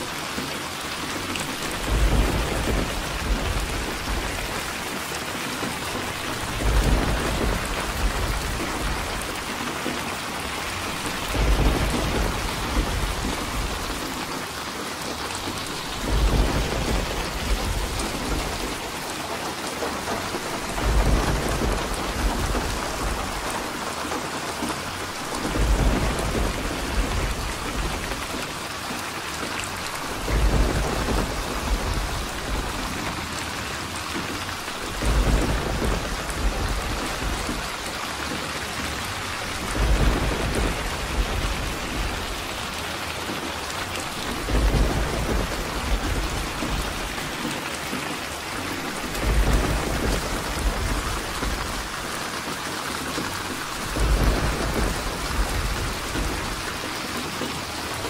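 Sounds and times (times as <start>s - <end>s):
heavy rain falling: 0.0s - 58.0s
thunder rumbling: 1.2s - 58.0s.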